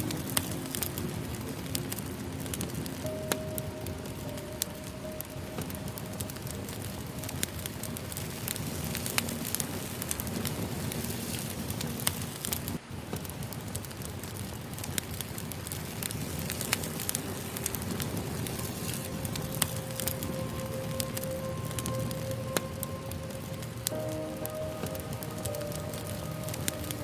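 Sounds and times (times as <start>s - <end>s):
fire hiss: 0.0s - 27.0s
firewood popping and crackling: 0.0s - 27.0s.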